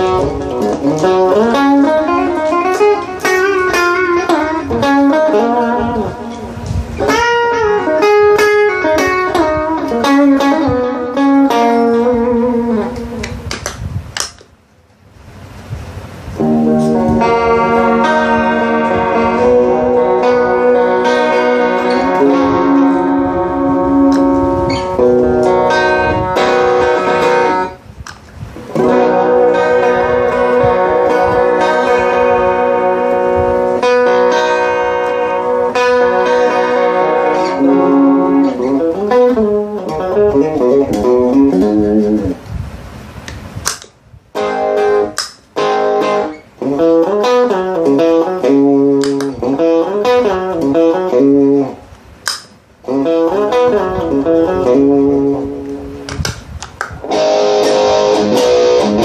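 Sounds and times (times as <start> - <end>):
electric guitar through effect pedals: 0.0 - 14.6, 15.3 - 59.0.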